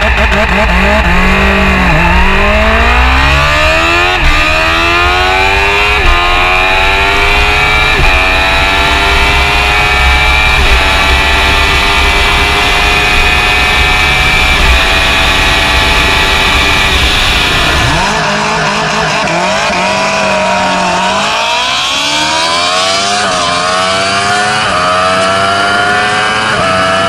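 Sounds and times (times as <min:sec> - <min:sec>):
high engine whine: 0:00.0 - 0:27.0
motorcycle engine revving: 0:00.0 - 0:27.0.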